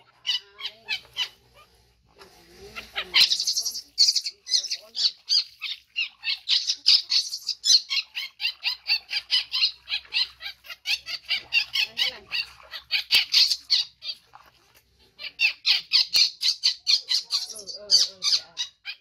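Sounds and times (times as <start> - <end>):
water splashing: 0.0 - 18.5
baby monkey screaming: 2.7 - 14.2, 15.2 - 19.0.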